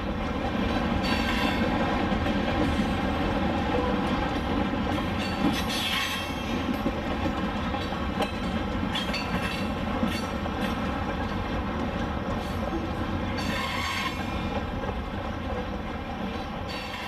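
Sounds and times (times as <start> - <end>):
wheels clicking over rail joints: 0.0 - 17.0.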